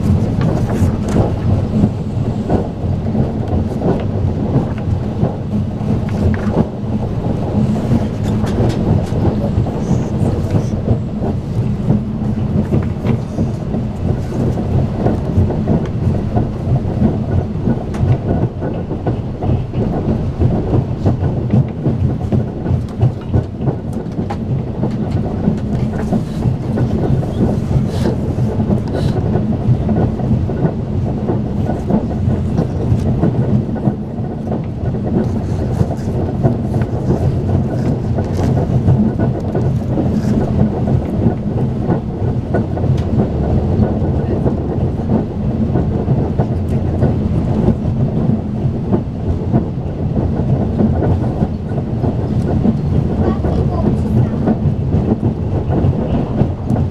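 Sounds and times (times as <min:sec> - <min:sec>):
train wheel and rail rumble: 0:00.0 - 0:56.9.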